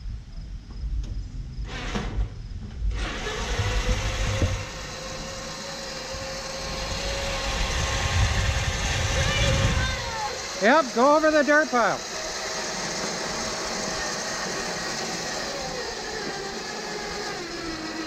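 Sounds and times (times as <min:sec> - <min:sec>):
electric motor whine: 0:01.0 - 0:18.0.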